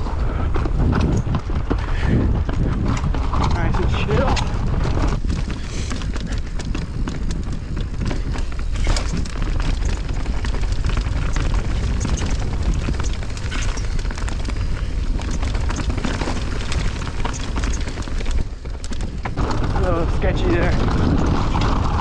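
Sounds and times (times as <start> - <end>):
wind buffeting microphone: 0.0 - 22.0
bike clattering over rocks: 0.6 - 22.0.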